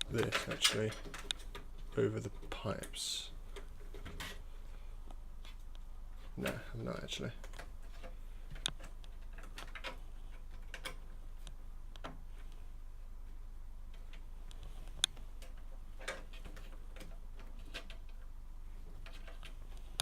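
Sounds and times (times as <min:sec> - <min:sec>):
cables and connectors clicking: 0:00.0 - 0:04.4, 0:05.0 - 0:12.6, 0:13.9 - 0:18.3
steady low hum: 0:00.0 - 0:20.0.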